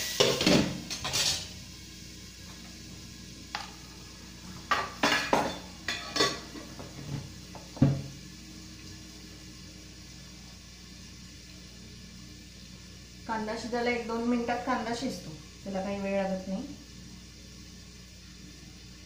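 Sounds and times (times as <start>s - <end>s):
onions sizzling: 0.0s - 19.0s.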